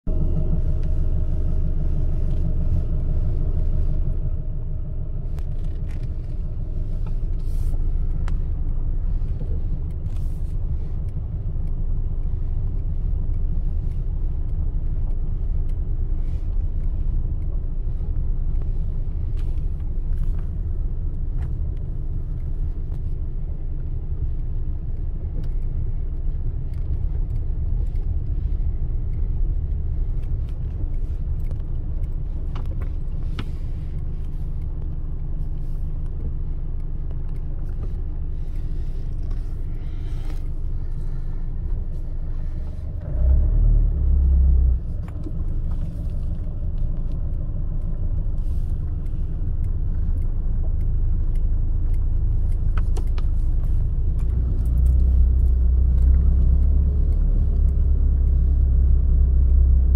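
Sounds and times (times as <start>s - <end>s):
car engine and tyres rumbling: 0.0s - 59.9s
faint clicks and knocks: 5.4s - 59.9s.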